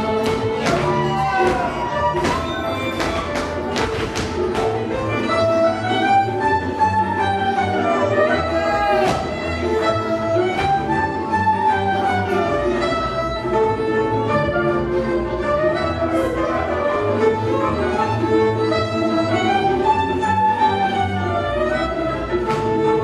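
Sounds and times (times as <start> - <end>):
fiddle-led string band: 0.0 - 23.0
steady bass accompaniment: 0.0 - 23.0.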